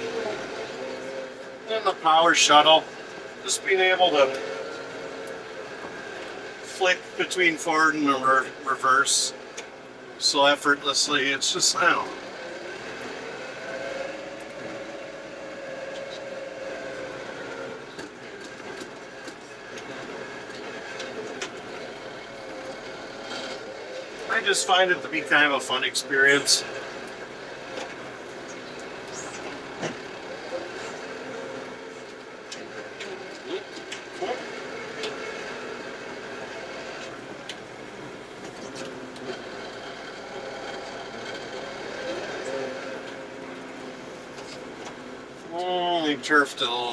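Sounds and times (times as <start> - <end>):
diesel tractor engine whining: 0.0 - 46.9.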